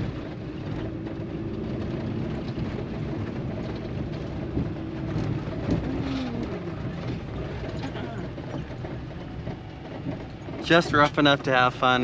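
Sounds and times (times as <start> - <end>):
tyres rumbling on rough road: 0.0 - 12.0
van engine pulling: 0.0 - 12.0
vehicle jolts: 0.0 - 12.0.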